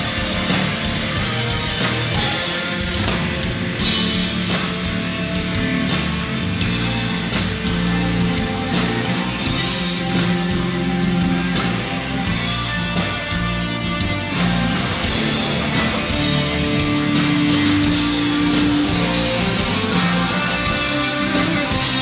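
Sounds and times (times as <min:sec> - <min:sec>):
live rock band with electric guitar: 0:00.0 - 0:22.0.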